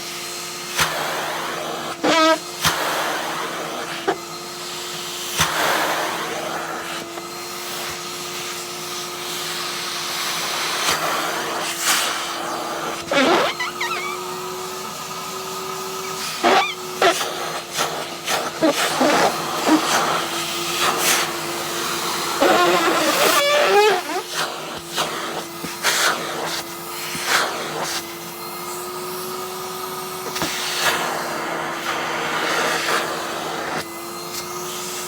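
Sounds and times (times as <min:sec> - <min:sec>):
vacuum cleaner running: 0:00.0 - 0:35.0.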